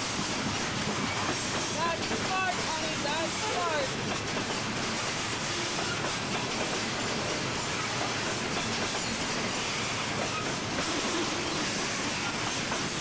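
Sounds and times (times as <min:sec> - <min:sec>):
steel wheels on rails: 0:00.0 - 0:13.0.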